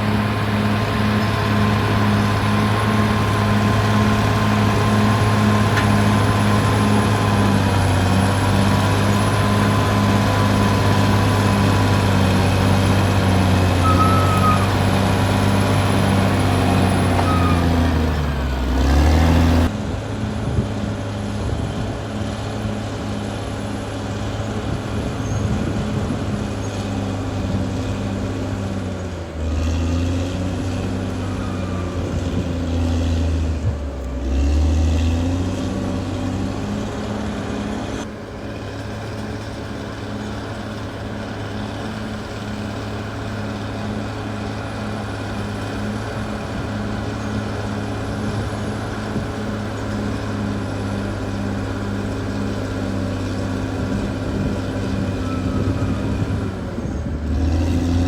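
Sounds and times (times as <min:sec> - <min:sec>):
bulldozer diesel engine pulsing: 0:00.0 - 0:58.0.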